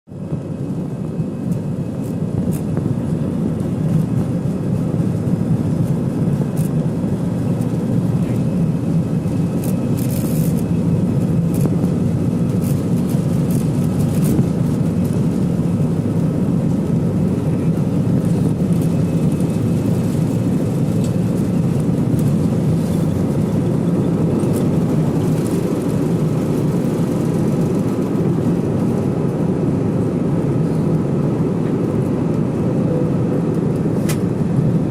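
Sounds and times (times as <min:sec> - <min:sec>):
jet engines low noise: 0:00.1 - 0:34.9.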